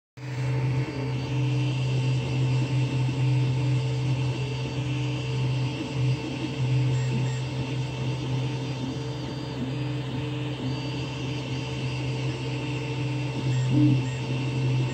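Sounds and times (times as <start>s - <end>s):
stepper motor whine: 0.2s - 14.9s
fans humming: 0.4s - 14.9s.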